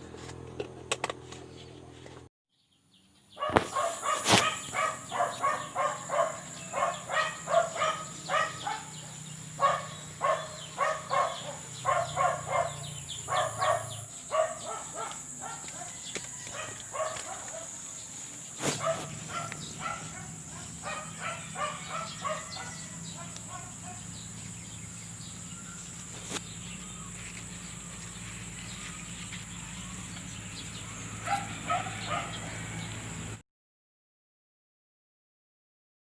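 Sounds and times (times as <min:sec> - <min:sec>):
birds chirping: 0:02.6 - 0:33.4.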